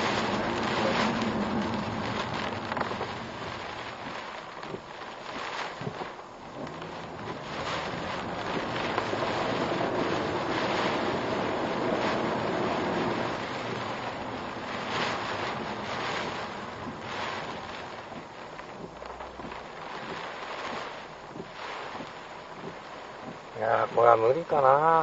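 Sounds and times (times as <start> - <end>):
wind and rain against a car: 0.0 - 25.0.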